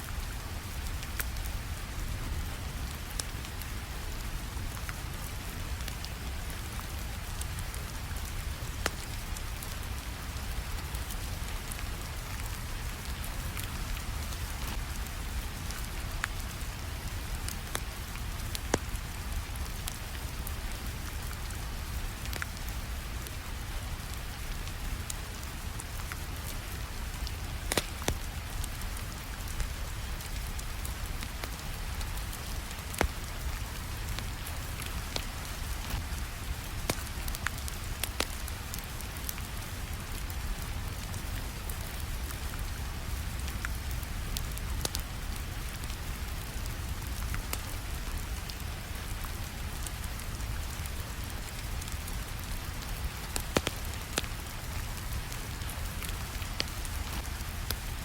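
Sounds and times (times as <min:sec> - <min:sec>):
steady rain: 0:00.0 - 0:58.0
wood fire crackling and popping: 0:00.1 - 0:58.0.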